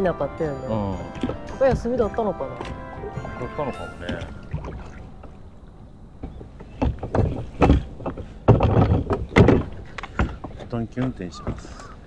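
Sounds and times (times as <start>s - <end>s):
oars knocking and creaking: 0.0s - 12.0s
thumps: 1.1s - 5.4s, 6.2s - 12.0s.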